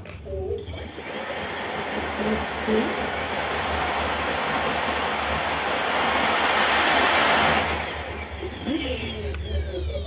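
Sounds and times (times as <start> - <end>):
stick vacuum cleaner running: 0.6 - 10.0.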